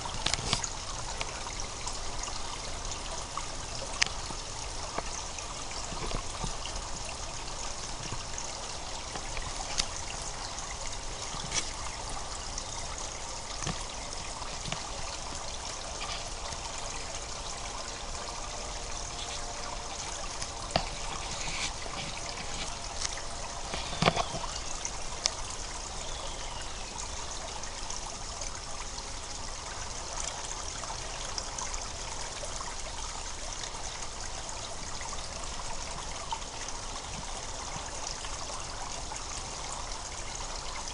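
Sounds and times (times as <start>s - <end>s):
small water splashes: 0.0s - 40.9s
spring water gurgling: 0.0s - 40.9s.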